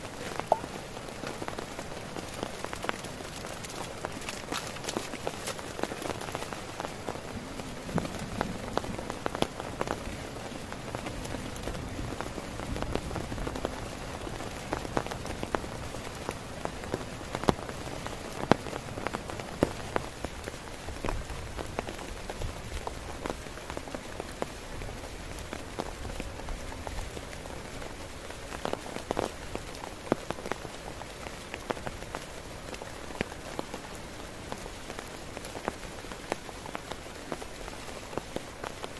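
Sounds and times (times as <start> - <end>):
heavy rain on a tent: 0.0 - 38.9
raindrops striking fabric: 0.0 - 38.9.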